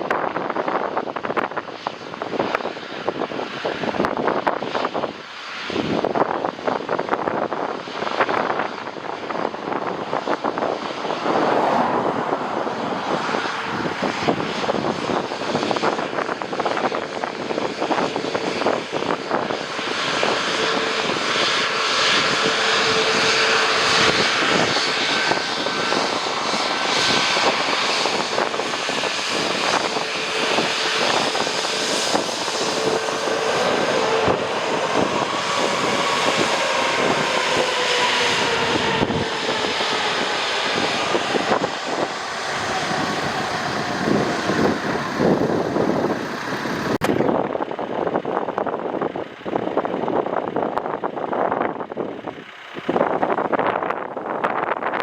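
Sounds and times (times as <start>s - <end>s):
faint jet whine: 0.0s - 48.1s
jet engines roaring: 0.0s - 55.0s
wind buffeting microphone: 0.0s - 55.0s.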